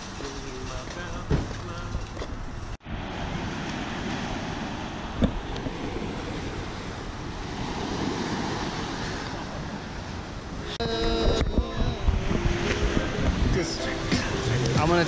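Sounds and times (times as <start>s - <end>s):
wind on microphone: 1.8s - 15.0s
ocean surf breaking: 2.8s - 15.0s.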